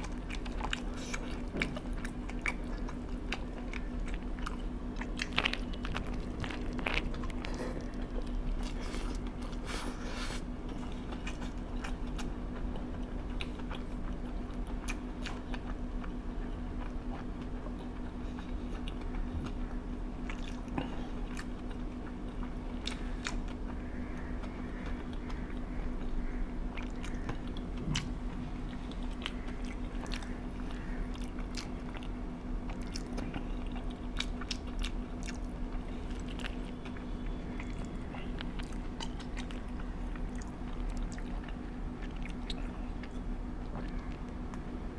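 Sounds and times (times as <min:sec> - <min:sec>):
person chewing crunchy food: 0:00.0 - 0:44.9
steady low hum: 0:00.0 - 0:44.9.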